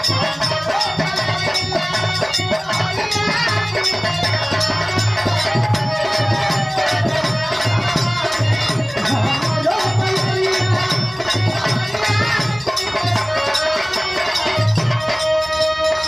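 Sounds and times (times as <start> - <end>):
drum beat: 0.0 - 13.8
jingling percussion: 0.0 - 16.0.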